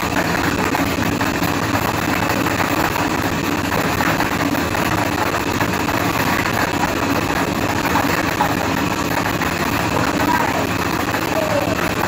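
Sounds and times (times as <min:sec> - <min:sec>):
machine whirring: 0:00.0 - 0:12.0.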